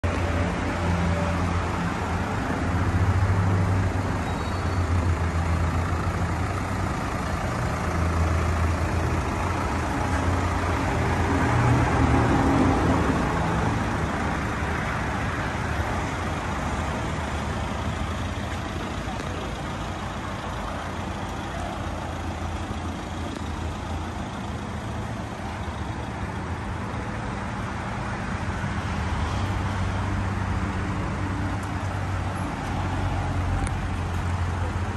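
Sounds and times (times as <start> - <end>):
vehicle engine idling: 0.0 - 34.9.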